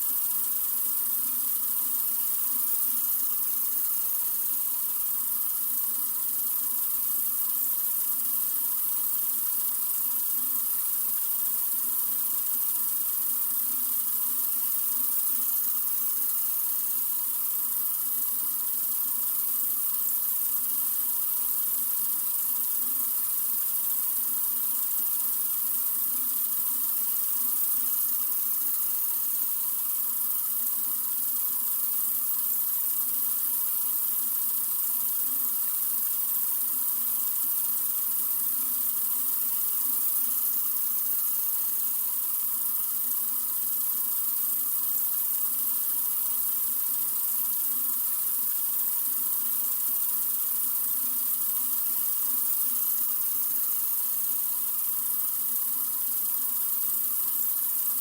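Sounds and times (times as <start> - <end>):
water running from a faucet: 0.0 - 58.0.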